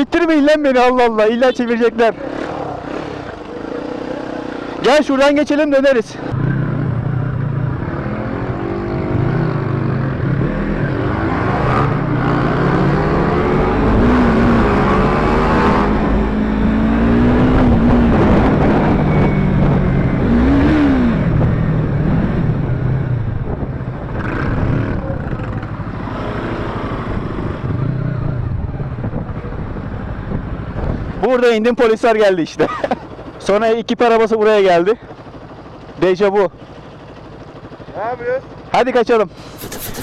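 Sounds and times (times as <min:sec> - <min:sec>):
motorcycle engine revving: 0:01.5 - 0:05.3, 0:06.2 - 0:31.2, 0:35.2 - 0:40.0.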